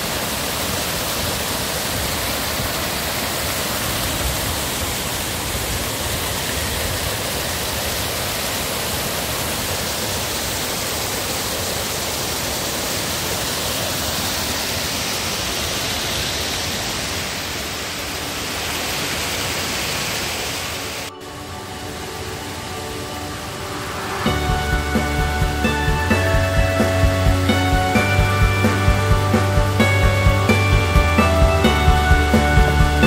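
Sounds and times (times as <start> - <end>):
waterfall rushing over rocks: 0.0 - 33.0.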